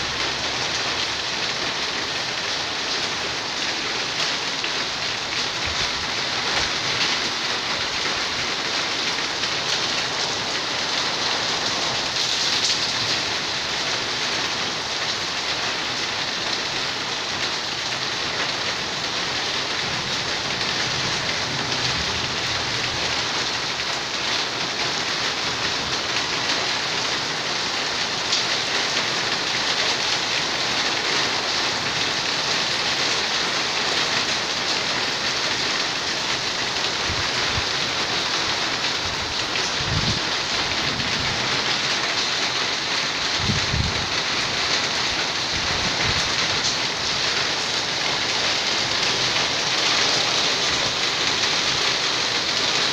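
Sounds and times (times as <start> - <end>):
rain on concrete and leaves: 0.0 - 52.9.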